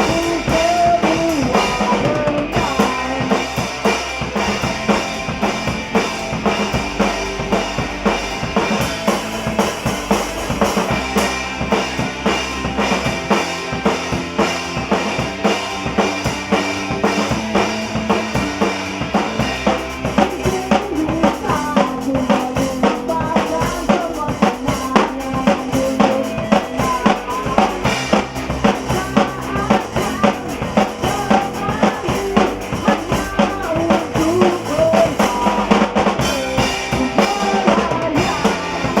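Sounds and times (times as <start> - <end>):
band playing live: 0.0 - 39.0
bass drum and snare beat: 0.0 - 39.0.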